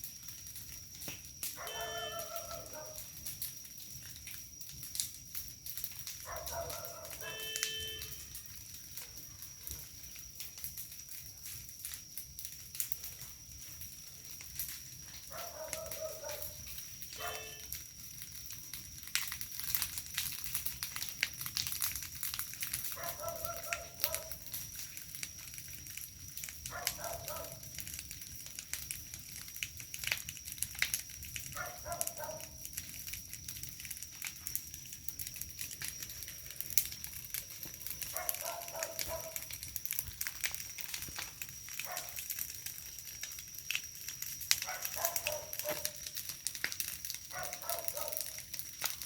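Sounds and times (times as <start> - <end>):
bonfire crackling and popping: 0.0 - 49.0.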